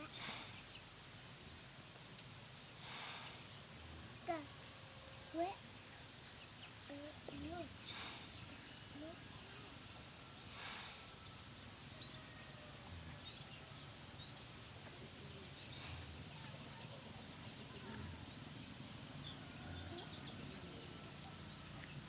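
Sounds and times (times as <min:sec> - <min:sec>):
low steady background: 0:00.0 - 0:22.0.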